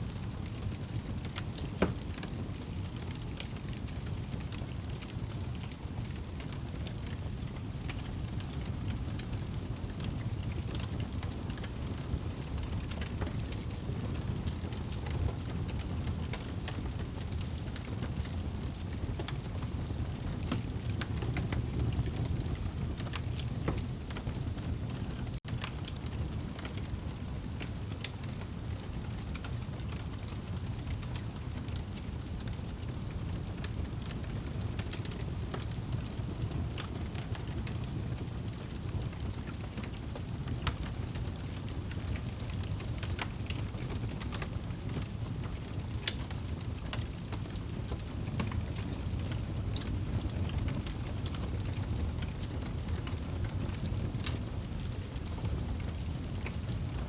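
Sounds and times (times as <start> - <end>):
wood fire crackling: 0.1 - 57.0.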